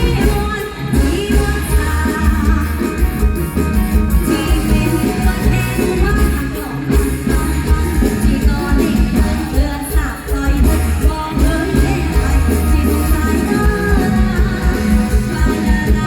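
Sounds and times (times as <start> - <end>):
live band music with singing: 0.0 - 16.0.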